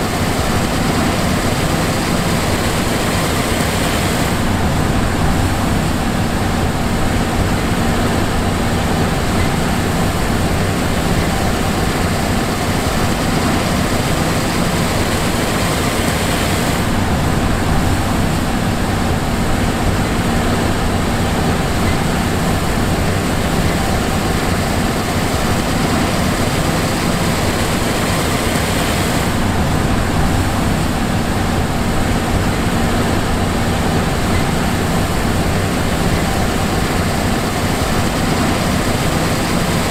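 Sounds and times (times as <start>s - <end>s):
combine diesel engine droning: 0.0s - 39.9s.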